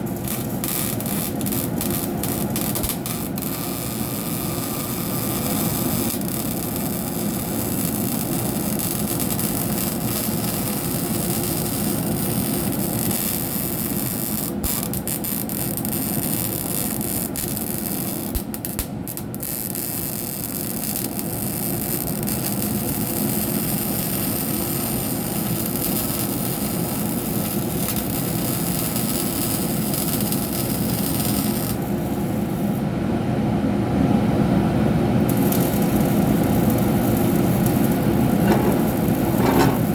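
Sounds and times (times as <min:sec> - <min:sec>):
welding arc crackling hiss: 0:00.0 - 0:32.8, 0:35.2 - 0:39.9.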